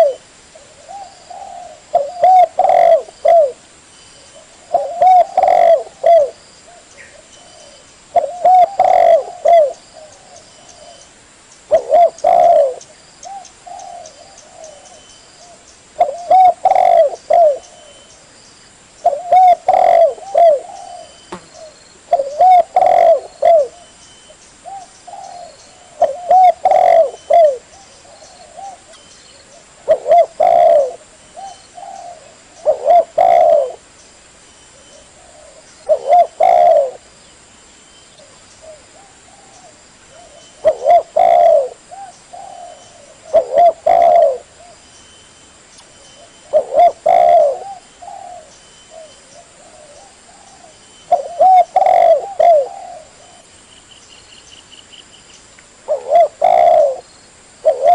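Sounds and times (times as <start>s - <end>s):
dove cooing: 0.0s - 3.6s, 4.4s - 11.0s, 11.7s - 18.1s, 19.0s - 24.0s, 24.6s - 33.9s, 34.7s - 37.1s, 38.2s - 44.8s, 46.2s - 53.5s, 55.9s - 57.9s.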